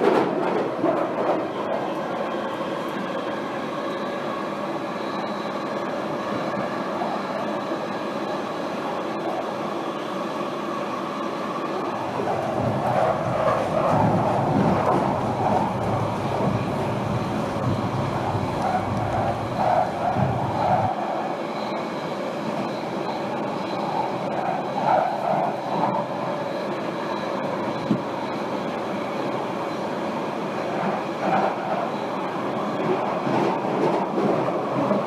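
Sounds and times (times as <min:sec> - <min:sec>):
underground train running: 0:00.0 - 0:35.0.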